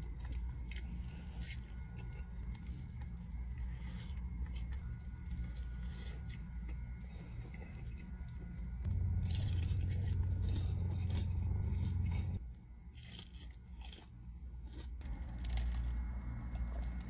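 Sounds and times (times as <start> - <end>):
crunchy chewing of chicken: 0.0 - 17.0
steady low hum: 0.0 - 17.0.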